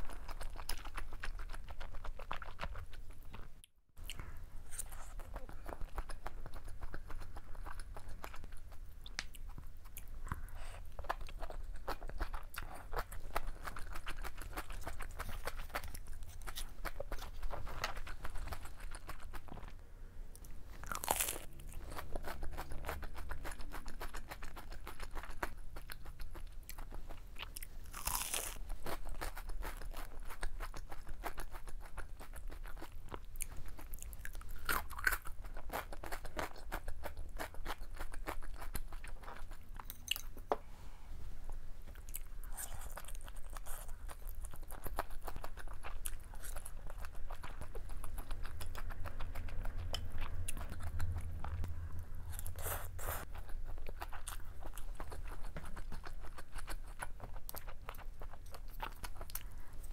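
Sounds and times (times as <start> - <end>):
crunchy chewing: 0.0 - 19.8, 20.4 - 40.5, 41.9 - 59.9.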